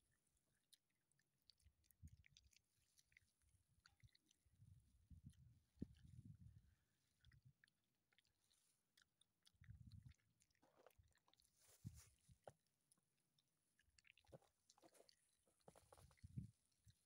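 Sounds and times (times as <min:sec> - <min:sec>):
wet chewing and mouth smacks: 0:00.0 - 0:17.0.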